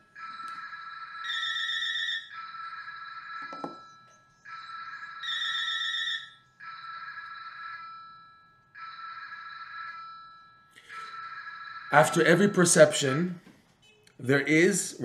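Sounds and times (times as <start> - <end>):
telephone ringing: 0.0 - 14.0.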